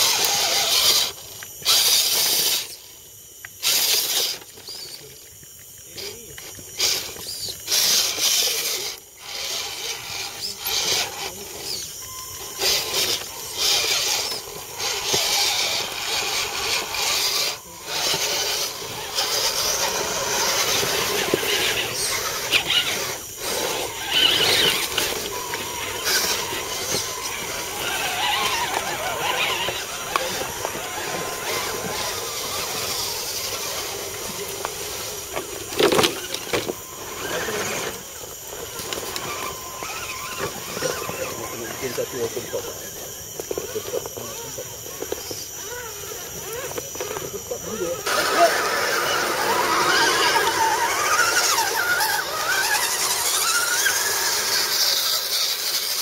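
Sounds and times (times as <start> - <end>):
toy truck electric motors whining: 0.0 - 56.0.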